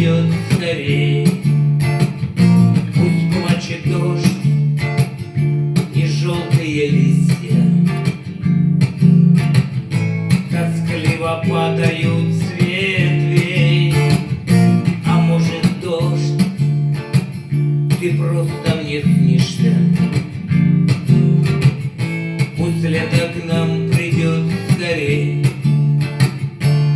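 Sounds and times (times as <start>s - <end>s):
strummed acoustic guitar: 0.0s - 26.9s.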